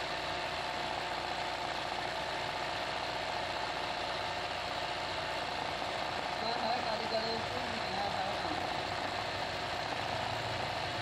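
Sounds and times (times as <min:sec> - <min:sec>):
sewing machine running: 0:01.4 - 0:11.0.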